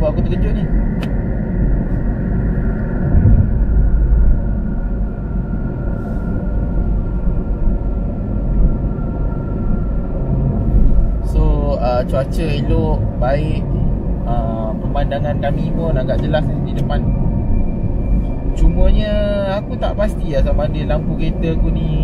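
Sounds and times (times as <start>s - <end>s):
engine and tyre rumble: 0.0s - 22.0s
faint steady whine: 0.0s - 22.0s.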